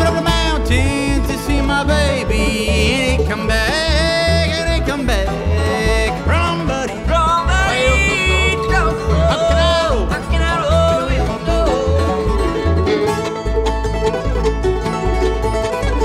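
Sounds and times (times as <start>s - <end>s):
banjo: 0.0s - 16.0s
bass line: 0.0s - 16.0s
guitar: 0.0s - 16.0s
sliding lead melody: 0.0s - 16.0s.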